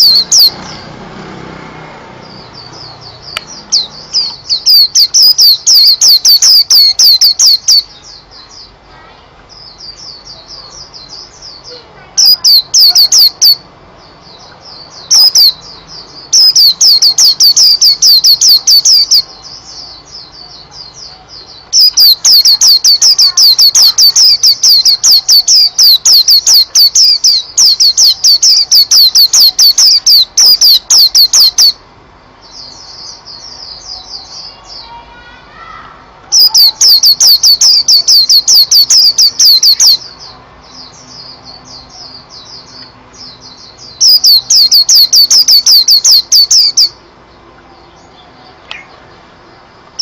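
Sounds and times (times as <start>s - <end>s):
canary singing: 0.0s - 50.0s.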